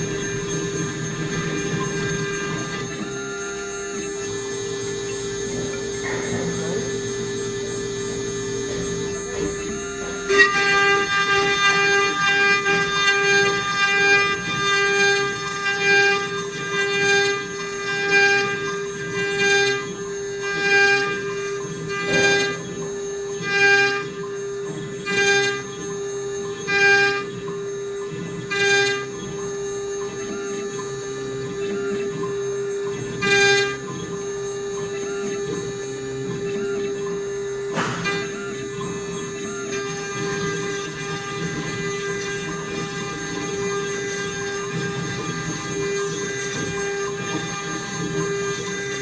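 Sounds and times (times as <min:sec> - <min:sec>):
cnc router spindle whine: 0:00.0 - 0:49.0
end mill cutting wood: 0:00.0 - 0:49.0.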